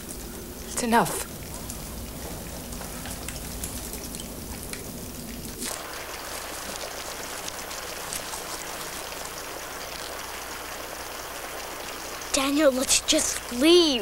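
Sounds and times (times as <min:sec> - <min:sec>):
rain-like hiss: 0:00.0 - 0:14.0.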